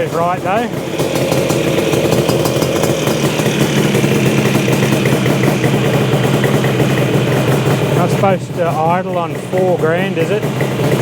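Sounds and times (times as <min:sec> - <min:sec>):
two-stroke motorcycle engine idling: 0:00.0 - 0:11.0.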